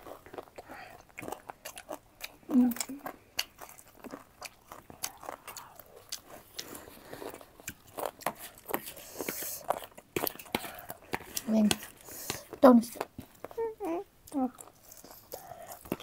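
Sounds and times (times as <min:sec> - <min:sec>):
person chewing crunchy food: 0:00.0 - 0:13.6, 0:14.3 - 0:16.0.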